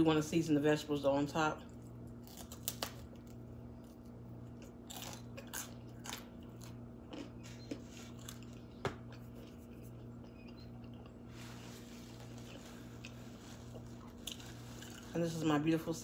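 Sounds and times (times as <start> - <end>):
faint steady hum: 0.0 - 16.0
person chewing: 1.7 - 15.1.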